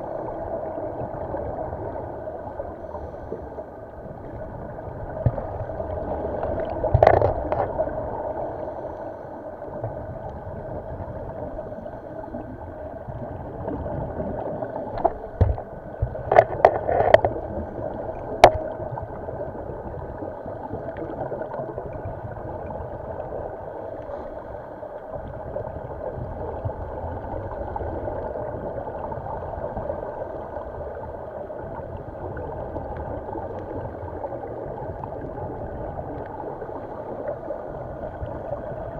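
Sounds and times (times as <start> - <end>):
underwater hum: 0.0 - 38.9.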